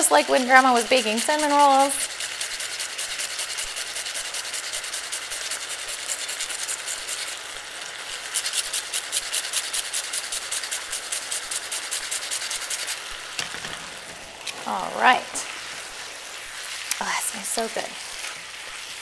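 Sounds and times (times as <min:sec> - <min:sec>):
sauce crackling in a hot pan: 0:00.1 - 0:19.0.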